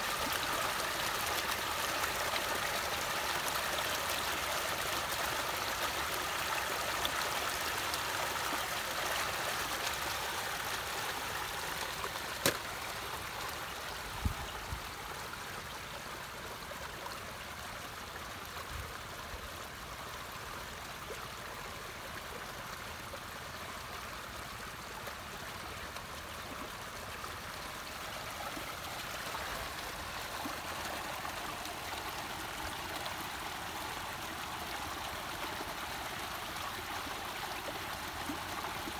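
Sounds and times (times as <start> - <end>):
muddy water rushing from culvert: 0.0 - 38.9.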